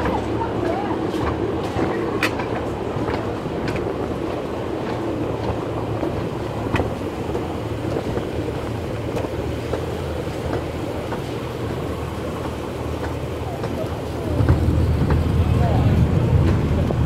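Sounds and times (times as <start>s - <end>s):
ride train rumbling on track: 0.0s - 17.0s.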